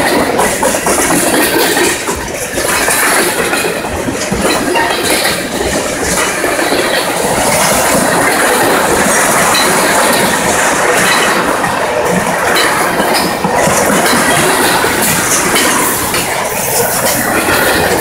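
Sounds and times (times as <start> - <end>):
steel wheels rumbling on rail: 0.0 - 18.0
wheels clicking over rail joints: 0.0 - 18.0.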